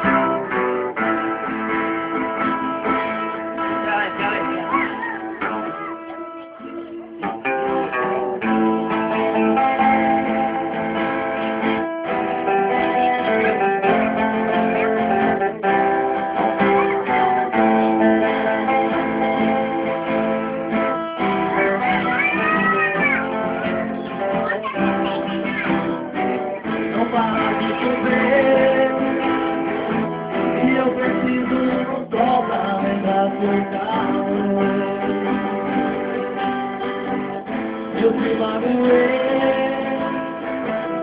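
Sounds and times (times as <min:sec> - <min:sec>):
acoustic guitar playing: 0:00.0 - 0:41.0.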